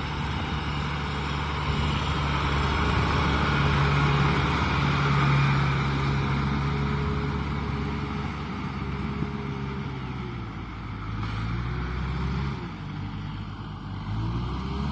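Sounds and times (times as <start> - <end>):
tractor diesel engine running: 0.0 - 14.1.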